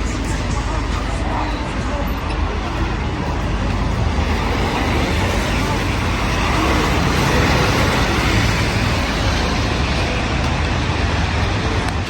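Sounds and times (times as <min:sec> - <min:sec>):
vehicles passing on street: 0:00.0 - 0:12.0.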